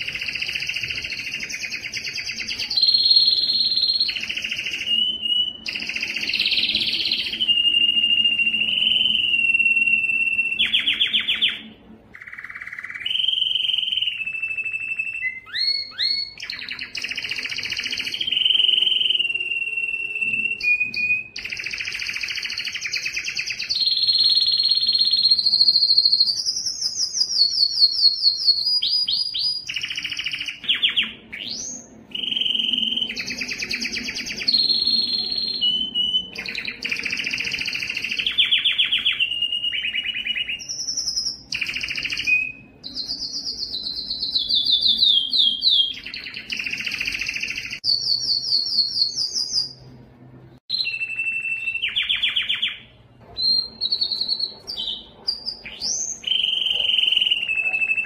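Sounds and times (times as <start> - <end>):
canary singing trills: 0.0 - 49.9, 50.6 - 58.0.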